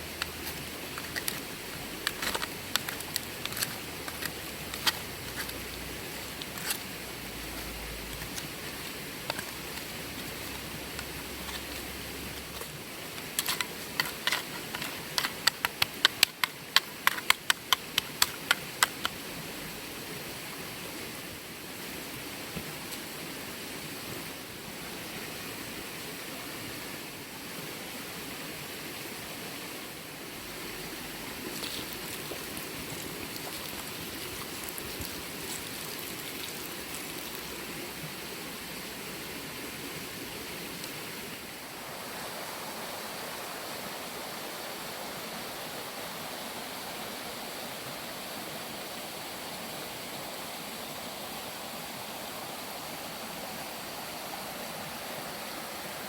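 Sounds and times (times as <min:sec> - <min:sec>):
steady rushing outdoor noise: 0:00.0 - 0:56.0.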